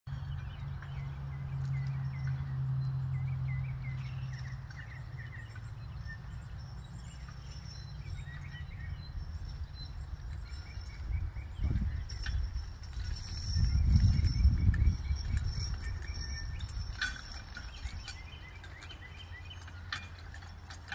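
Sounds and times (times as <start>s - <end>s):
small birds chirping: 0.1s - 20.9s.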